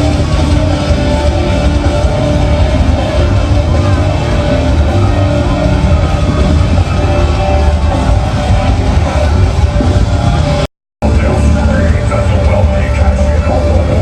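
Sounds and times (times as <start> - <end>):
loud music with deep bass: 0.0 - 14.0.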